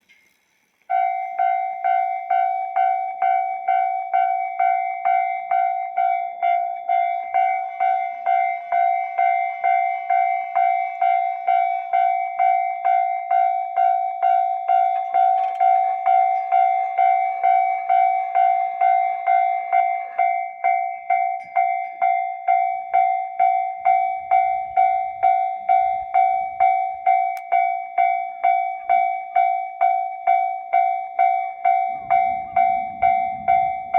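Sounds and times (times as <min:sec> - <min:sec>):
train running: 0:00.0 - 0:33.9
level crossing bell ringing: 0:00.9 - 0:33.9.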